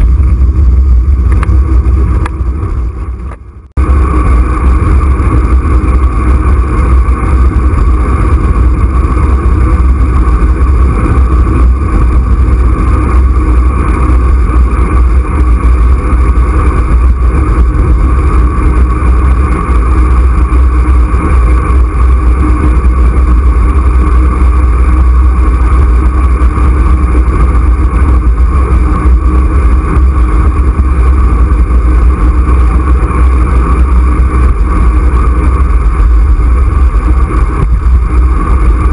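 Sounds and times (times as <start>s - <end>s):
road noise: 0.0s - 38.9s
wind buffeting microphone: 0.0s - 38.9s.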